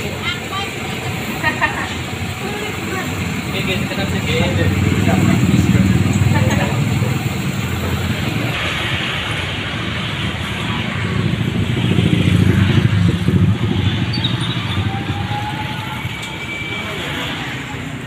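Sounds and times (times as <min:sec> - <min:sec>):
motorcycle passing: 0:00.0 - 0:18.0
road traffic: 0:00.0 - 0:18.0.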